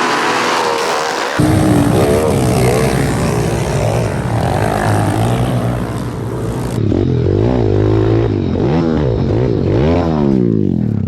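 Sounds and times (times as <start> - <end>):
small motorcycle engines revving: 0.0 - 11.0.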